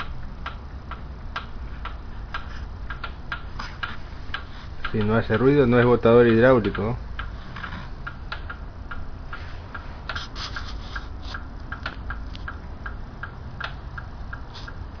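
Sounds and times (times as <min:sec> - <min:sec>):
rapid light valve ticking: 0:00.0 - 0:15.0.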